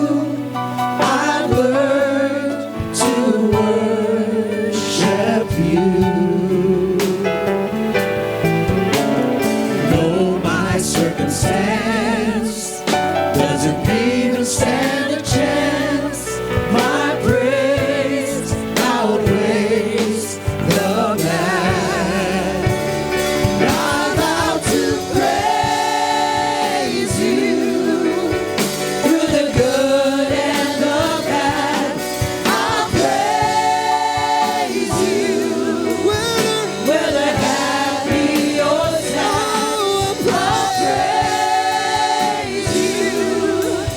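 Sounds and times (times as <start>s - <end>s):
gospel choir singing: 0.0s - 43.9s
instrumental accompaniment: 0.0s - 43.9s.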